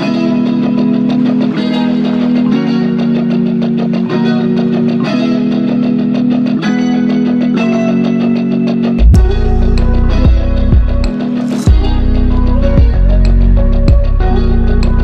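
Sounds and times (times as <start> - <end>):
background music with chords: 0.0 - 15.0.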